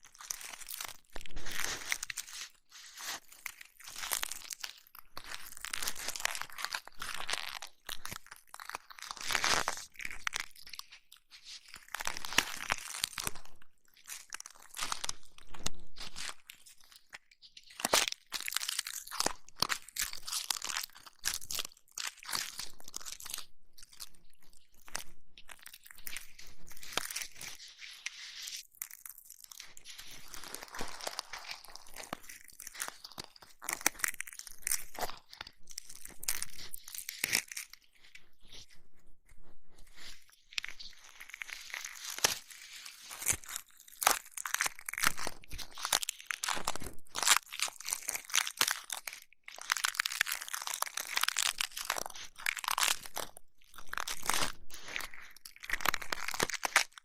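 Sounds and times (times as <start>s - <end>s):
crisp crackling and crinkling: 0.0s - 57.0s.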